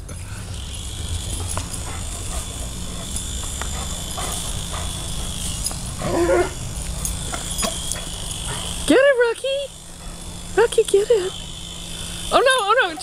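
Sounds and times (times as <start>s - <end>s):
toy helicopter motor whining: 0.0s - 13.0s.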